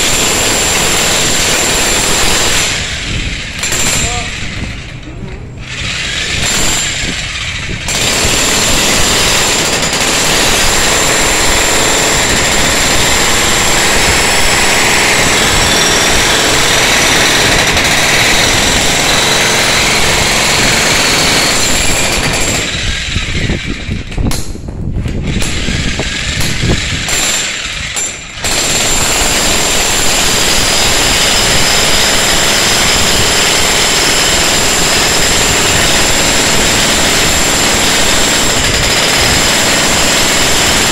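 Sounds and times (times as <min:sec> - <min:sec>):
demolition hammer chiselling concrete: 0:00.0 - 0:05.0, 0:05.6 - 0:24.5, 0:25.1 - 0:40.9.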